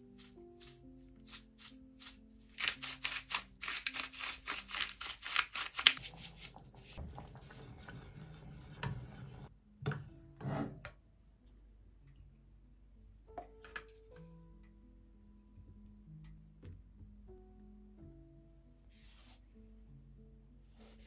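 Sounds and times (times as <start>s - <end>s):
soft background music: 0.0s - 21.0s.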